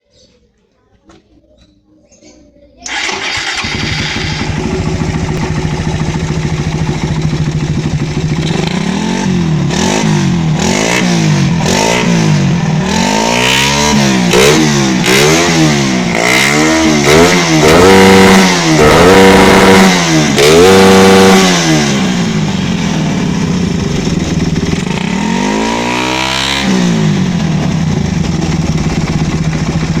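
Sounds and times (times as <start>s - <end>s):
motorcycle engine idling and revving: 2.8s - 30.0s.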